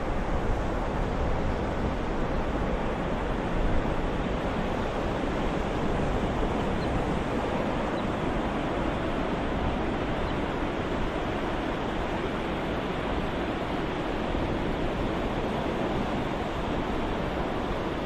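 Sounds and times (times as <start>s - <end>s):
ocean surf wash: 0.0s - 18.0s.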